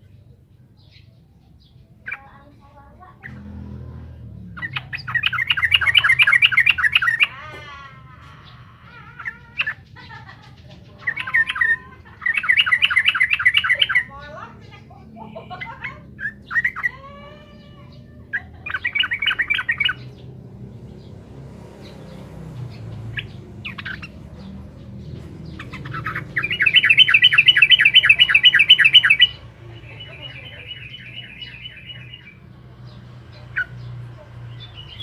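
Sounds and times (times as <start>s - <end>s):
bulbul singing: 0.0s - 35.0s.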